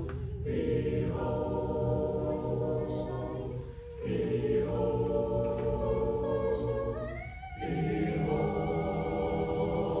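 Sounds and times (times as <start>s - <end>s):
choir singing held chords: 0.0s - 10.0s.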